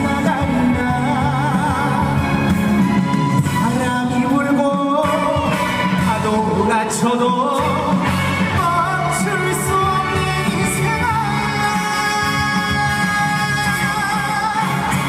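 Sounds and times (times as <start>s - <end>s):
instrumental accompaniment with bass: 0.0s - 15.0s
man singing with vibrato: 0.0s - 15.0s.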